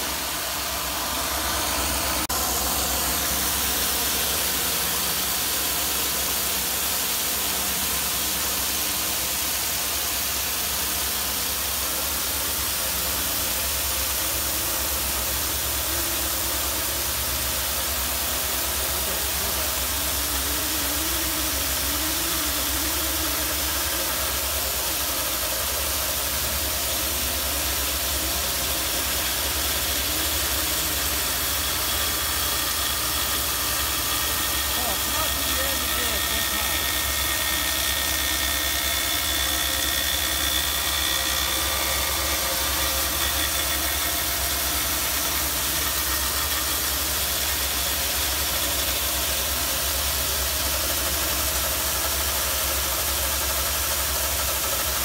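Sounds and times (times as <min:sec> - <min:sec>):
drain-descaling machine running: 0:00.0 - 0:55.0
hiss of spray: 0:00.0 - 0:55.0.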